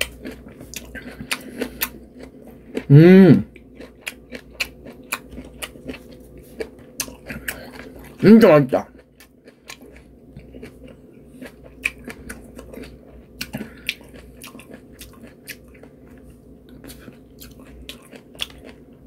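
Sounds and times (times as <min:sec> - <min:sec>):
wet chewing mouth sounds: 0:00.0 - 0:08.2, 0:08.9 - 0:18.9.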